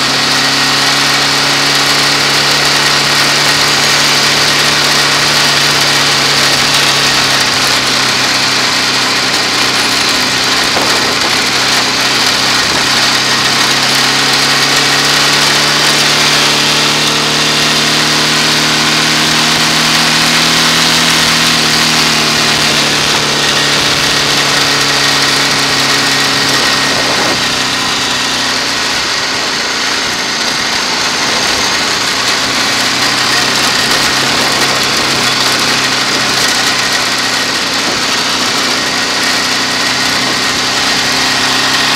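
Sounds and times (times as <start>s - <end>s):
motorcycle engine running: 0.0s - 41.9s
wind and road rush: 0.0s - 41.9s.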